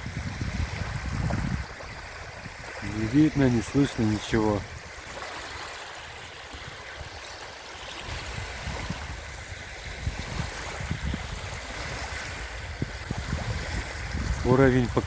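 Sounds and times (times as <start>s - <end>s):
waves washing on shore: 0.0s - 15.0s
wind gusting on microphone: 0.0s - 15.0s.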